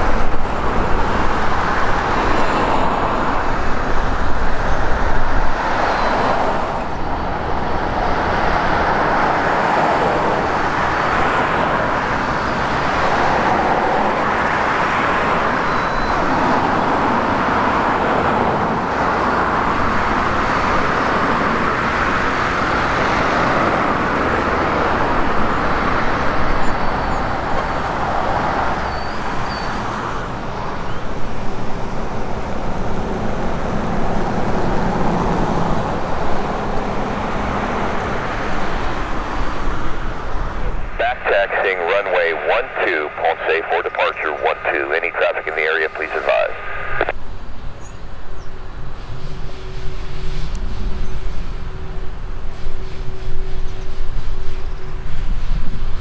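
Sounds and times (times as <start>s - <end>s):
jet engines running: 0.0s - 53.3s.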